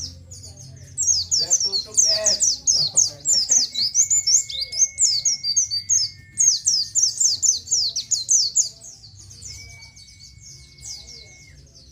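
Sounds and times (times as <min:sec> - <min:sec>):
bird chirping song: 0:00.0 - 0:11.9.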